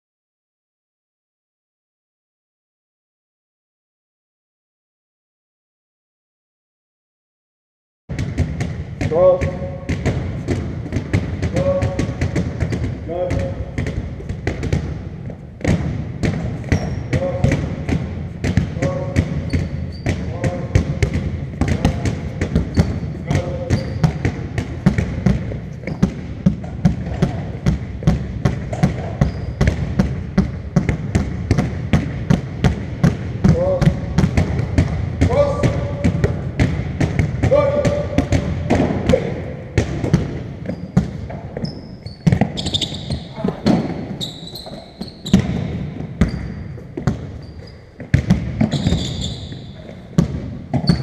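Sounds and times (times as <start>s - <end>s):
basketballs bouncing on wooden court: 8.1s - 51.0s
sneakers squeaking on floor: 8.1s - 51.0s.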